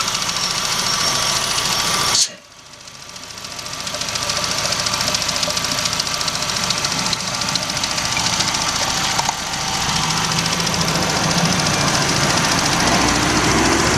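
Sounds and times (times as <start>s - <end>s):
car engine idling with ticking: 0.0s - 13.9s.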